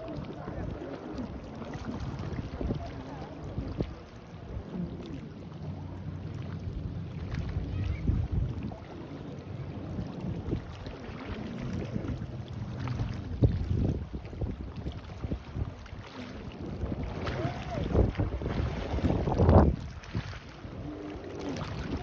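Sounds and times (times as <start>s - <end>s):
distant motorboat engine: 0.0s - 22.0s
wind buffeting microphone: 0.0s - 22.0s.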